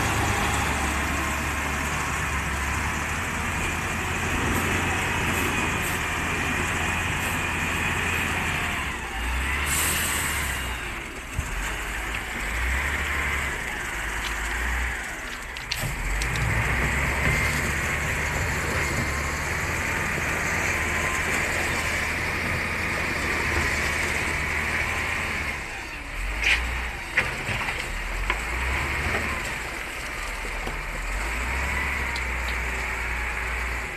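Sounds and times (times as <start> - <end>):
dump truck diesel engine running: 0.0 - 33.9.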